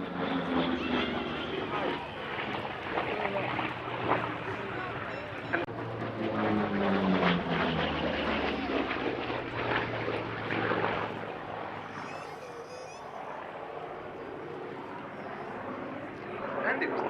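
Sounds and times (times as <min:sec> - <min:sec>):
propeller plane passing by: 0:00.0 - 0:17.0.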